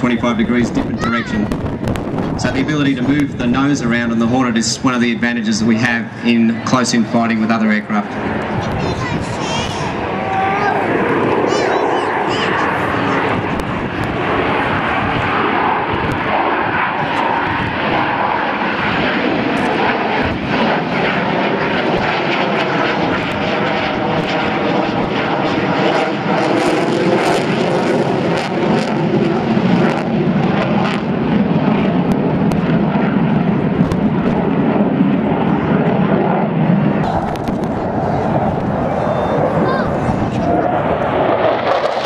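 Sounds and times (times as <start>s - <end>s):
jet engine roar: 0.0s - 42.0s.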